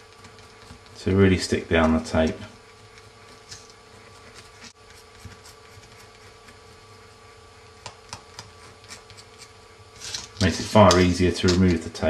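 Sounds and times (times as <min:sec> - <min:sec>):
steady faint hum: 0:00.0 - 0:12.0.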